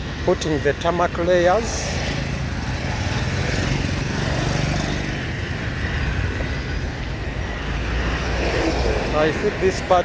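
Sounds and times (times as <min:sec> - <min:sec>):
road noise: 0:00.0 - 0:10.0
vehicle engine hum: 0:01.2 - 0:10.0.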